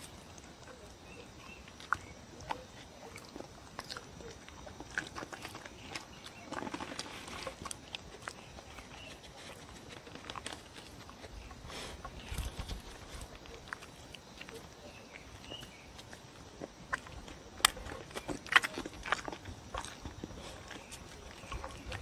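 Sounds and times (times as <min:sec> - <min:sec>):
dog chewing and licking: 0:00.0 - 0:22.0.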